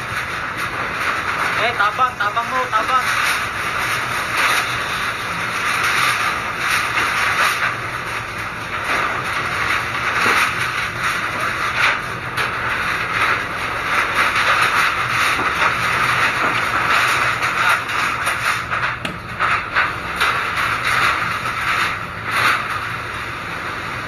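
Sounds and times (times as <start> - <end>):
roof sheets rattling: 0.0 - 23.2
rain on metal roof: 0.0 - 24.0.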